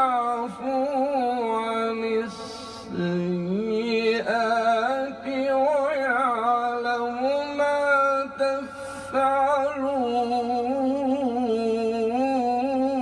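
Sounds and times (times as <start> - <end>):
man reciting melismatic chant: 0.0 - 13.0.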